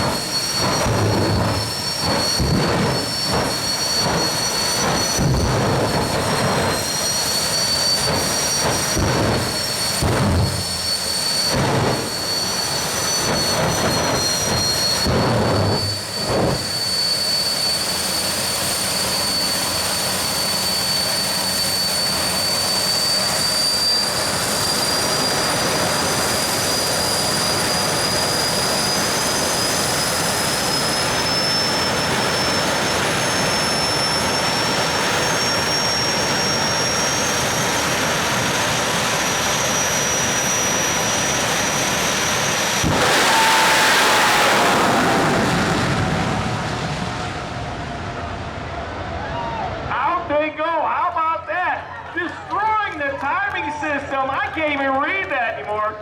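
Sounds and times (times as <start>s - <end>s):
drag racing engines running: 0.0s - 56.0s.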